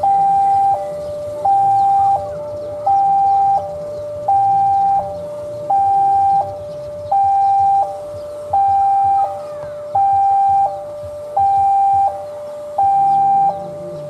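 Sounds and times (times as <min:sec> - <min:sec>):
two-tone level crossing alarm: 0:00.0 - 0:14.0.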